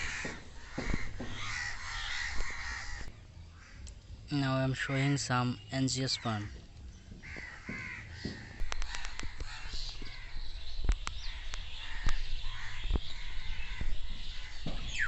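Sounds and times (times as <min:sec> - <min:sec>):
crows cawing: 0:00.0 - 0:03.9, 0:06.1 - 0:15.0.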